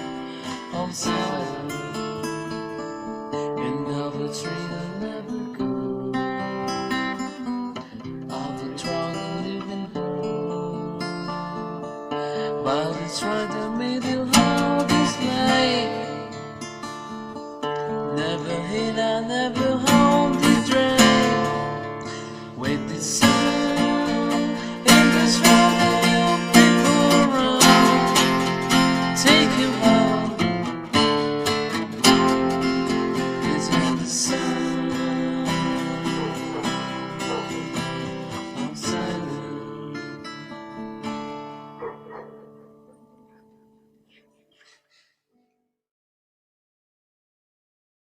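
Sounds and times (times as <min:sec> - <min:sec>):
acoustic guitar chords: 0:00.0 - 0:44.0.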